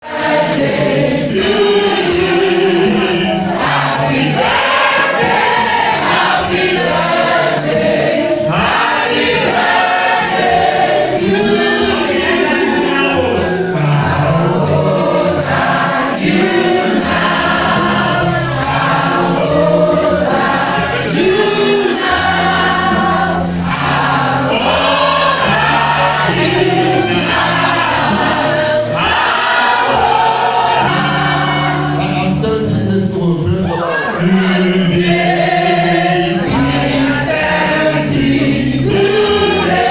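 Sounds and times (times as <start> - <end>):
choir singing gospel: 0.0 - 39.9
percussion beat: 0.1 - 39.9.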